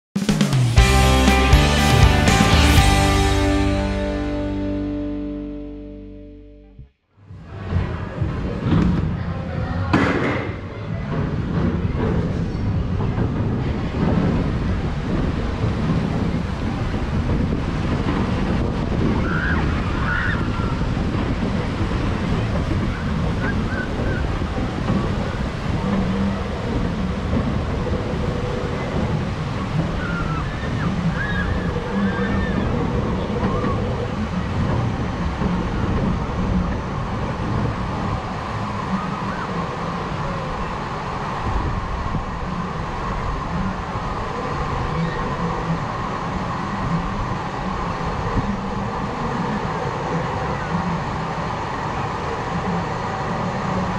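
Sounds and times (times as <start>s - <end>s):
low rumbling noise: 0.5s - 53.9s
wind buffeting microphone: 7.4s - 53.9s.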